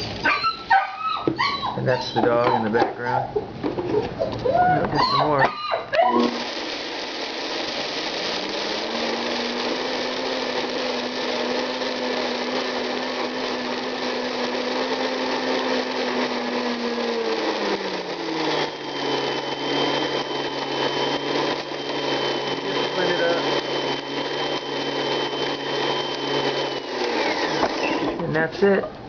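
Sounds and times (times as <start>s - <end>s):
blender grinding grains: 4.8s - 28.8s.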